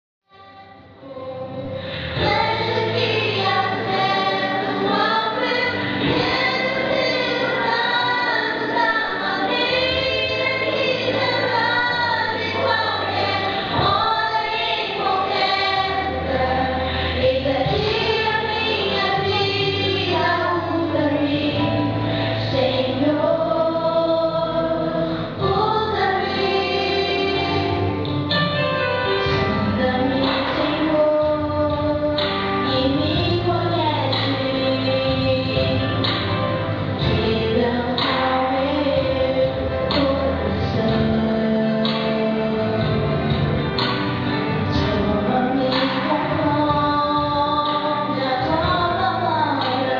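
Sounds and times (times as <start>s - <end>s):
instrumental accompaniment: 0.4s - 49.9s
women singing gospel: 0.4s - 49.9s.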